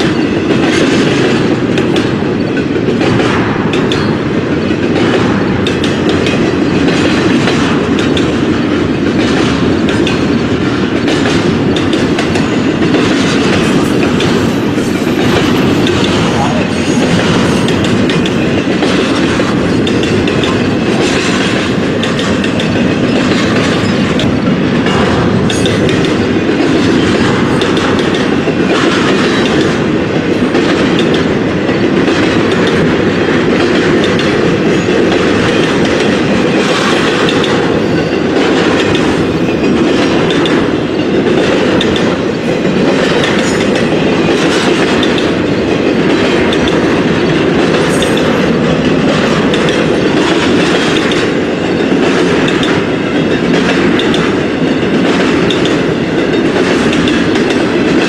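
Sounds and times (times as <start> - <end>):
train wheels rumbling on rails: 0.0 - 58.0
wheels clicking over rail joints: 0.0 - 58.0.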